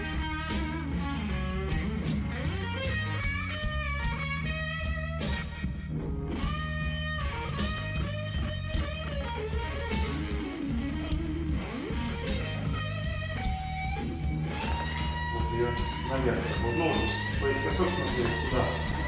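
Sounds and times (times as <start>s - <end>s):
blues guitar with bass and beat: 0.0s - 19.0s.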